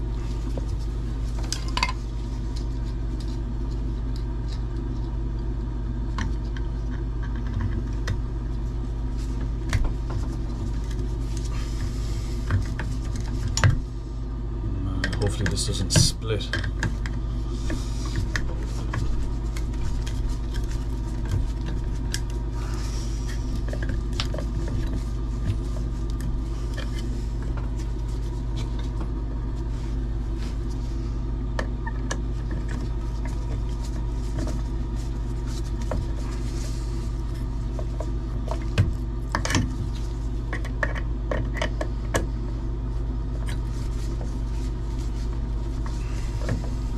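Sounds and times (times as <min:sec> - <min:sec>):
machine hum: 0:00.0 - 0:46.9.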